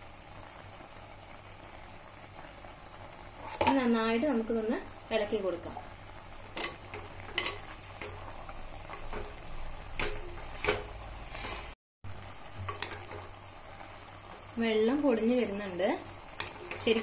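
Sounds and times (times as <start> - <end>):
faint sizzle of meat cooking: 0.0 - 17.0.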